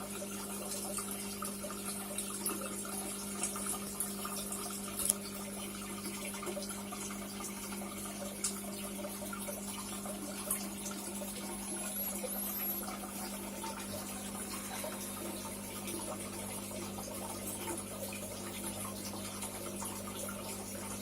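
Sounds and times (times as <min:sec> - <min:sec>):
drips and ticks: 0:00.0 - 0:21.0
water trickling and splashing: 0:00.0 - 0:21.0.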